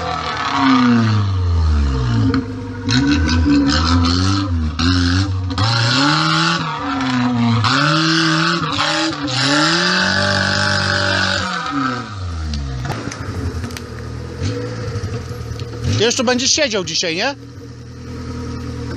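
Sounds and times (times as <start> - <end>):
off-road engine revving: 0.0 - 18.9.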